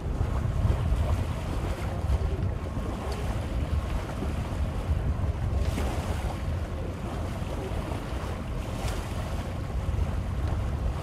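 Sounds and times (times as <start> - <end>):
water washing in bay: 0.0 - 11.0
wind buffeting microphone: 0.0 - 11.0.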